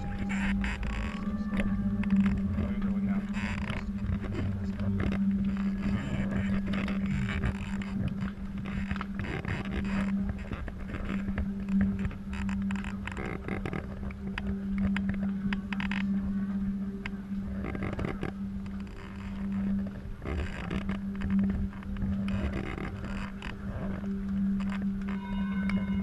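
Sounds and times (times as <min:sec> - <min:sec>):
low rumble: 0:00.0 - 0:26.0
motor hum: 0:00.0 - 0:26.0.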